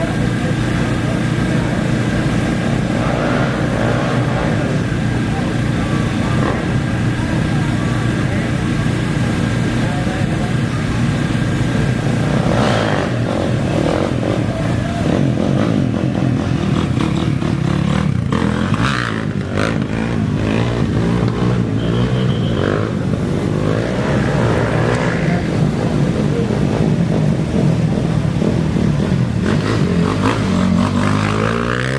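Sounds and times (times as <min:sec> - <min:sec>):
motorcycle engines revving: 0:00.0 - 0:31.9.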